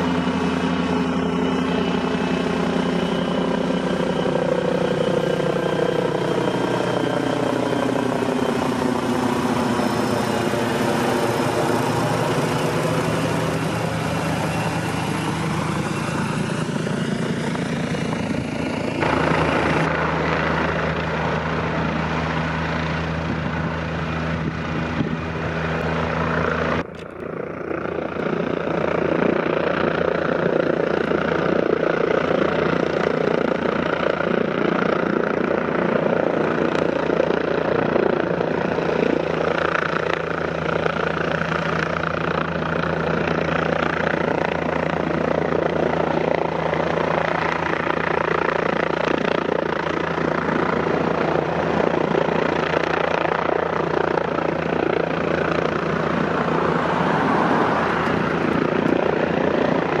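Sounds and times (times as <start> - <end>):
helicopter rotors and turbines: 0.0 - 60.0.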